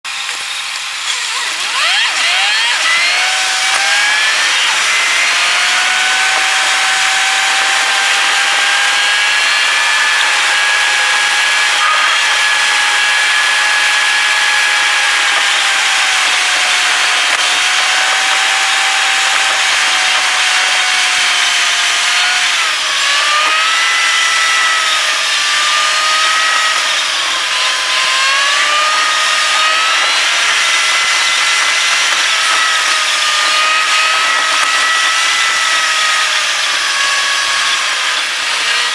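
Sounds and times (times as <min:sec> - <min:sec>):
car engine whine: 0:00.1 - 0:38.9.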